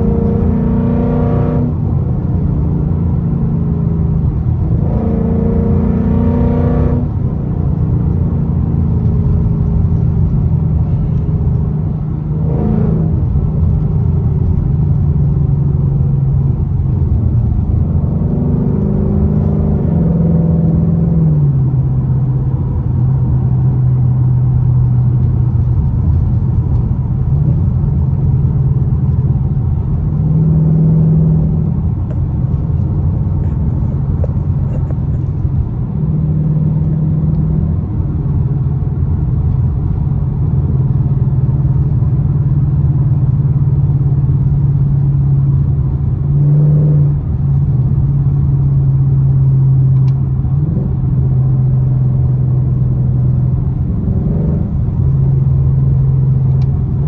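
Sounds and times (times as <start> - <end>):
car engine drone from inside cabin: 0.0 - 57.0.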